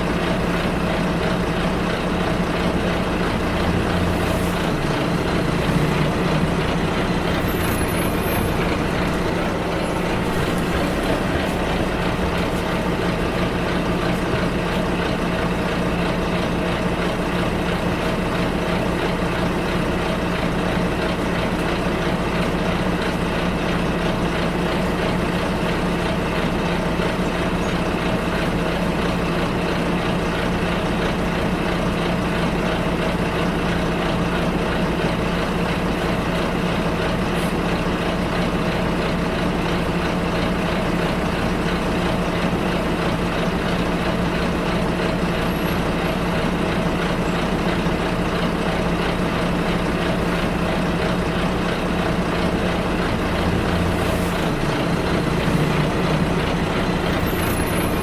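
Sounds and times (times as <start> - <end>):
bus engine droning: 0.0 - 58.0
road noise: 0.0 - 58.0.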